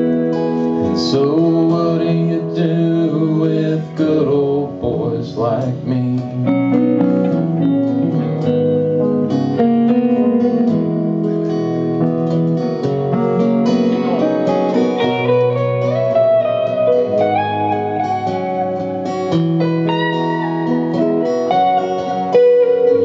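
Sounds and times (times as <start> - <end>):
lead guitar line: 0.0 - 23.0
strummed acoustic guitar: 0.0 - 23.0.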